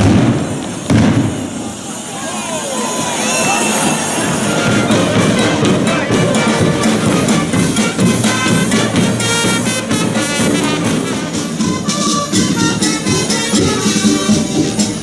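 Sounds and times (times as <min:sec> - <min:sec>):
brass music: 0:02.8 - 0:15.0.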